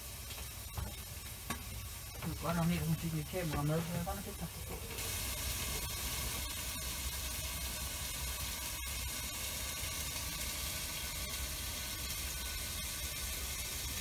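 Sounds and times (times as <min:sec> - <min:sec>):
food sizzling on a grill: 0:00.0 - 0:14.0.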